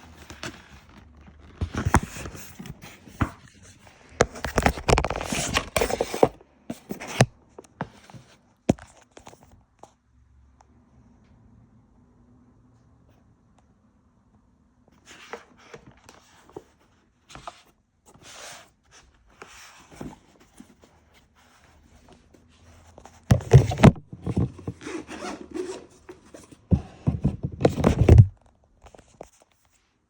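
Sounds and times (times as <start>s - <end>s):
packaging rustling and scraping: 0.0s - 9.4s, 15.0s - 29.7s.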